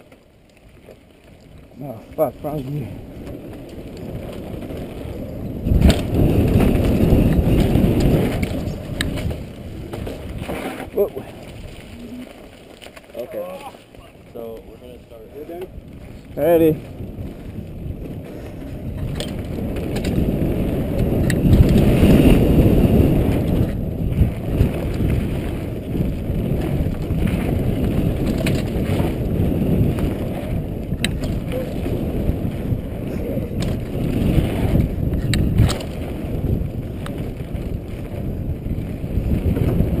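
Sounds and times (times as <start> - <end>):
bike rattles and clicks: 0.0 - 40.0
tyre rumble: 0.0 - 40.0
wind buffeting: 0.7 - 40.0.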